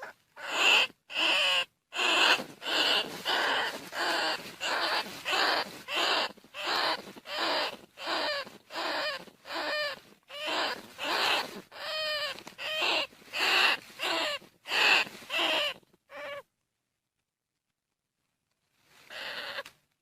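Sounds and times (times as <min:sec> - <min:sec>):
rat squealing: 0:00.0 - 0:16.4, 0:19.1 - 0:19.7.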